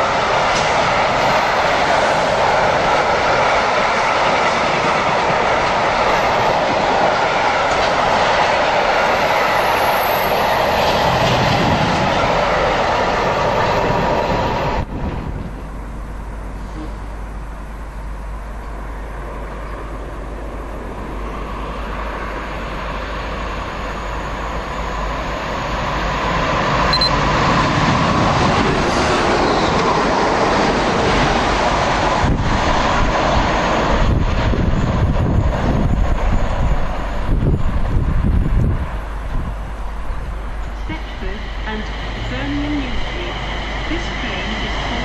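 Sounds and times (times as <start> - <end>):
electric train approaching: 0.0 - 45.0.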